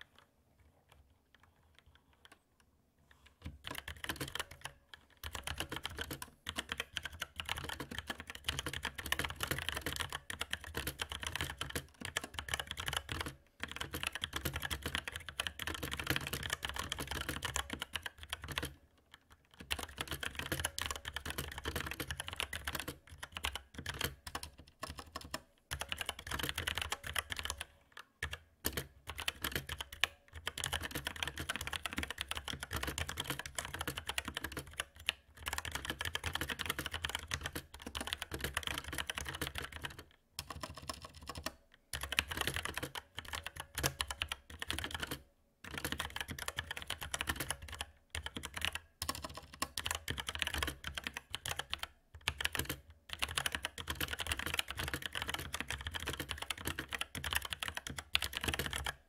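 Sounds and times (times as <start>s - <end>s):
mechanical keyboard typing: 3.1s - 59.0s.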